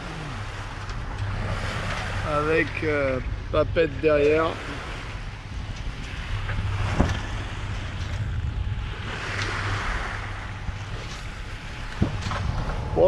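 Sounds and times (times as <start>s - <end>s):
sea water washing along hull: 0.0s - 13.0s
steady low rumble: 0.0s - 13.0s
wind buffeting microphone: 0.0s - 13.0s.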